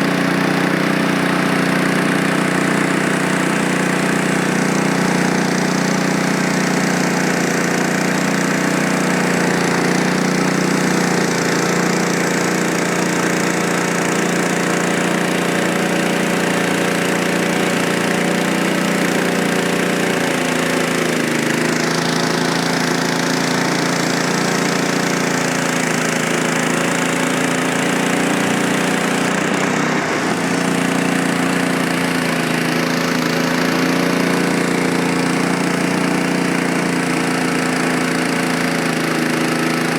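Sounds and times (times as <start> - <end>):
small engine under load: 0.0 - 39.9.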